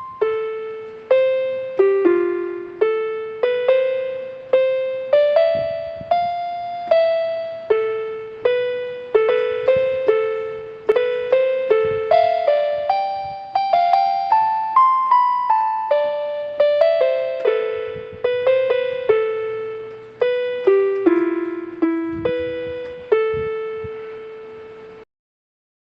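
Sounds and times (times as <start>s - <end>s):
slow keyboard melody: 0.0s - 25.1s.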